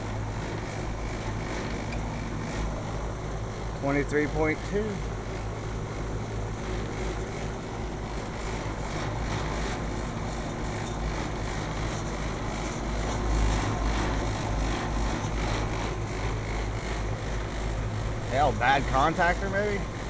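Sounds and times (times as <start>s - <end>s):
air conditioner humming with fan: 0.0s - 20.0s.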